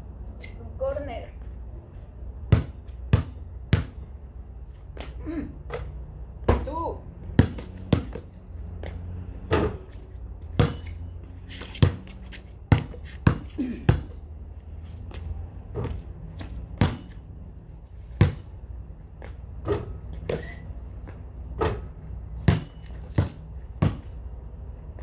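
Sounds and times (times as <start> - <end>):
basketball bouncing on concrete: 2.4 - 4.2, 4.8 - 24.3.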